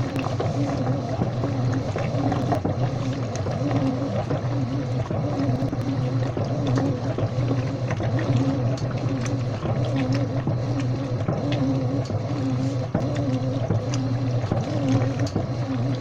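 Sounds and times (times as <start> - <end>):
washing machine motor hum: 0.0 - 16.0
water sloshing in a drum: 0.0 - 16.0.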